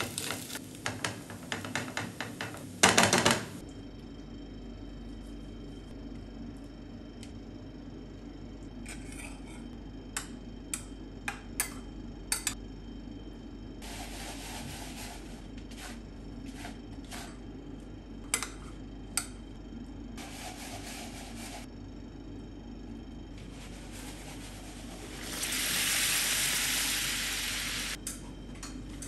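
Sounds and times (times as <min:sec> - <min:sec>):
steady low hum: 0:03.6 - 0:29.0.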